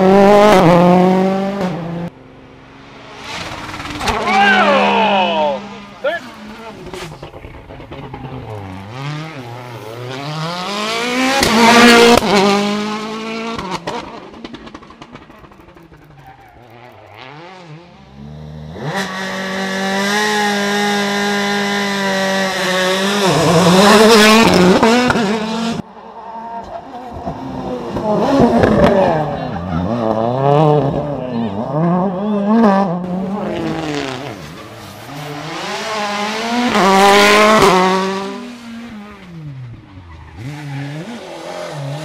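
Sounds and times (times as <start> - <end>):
rally cars passing at speed: 0.0 - 42.0.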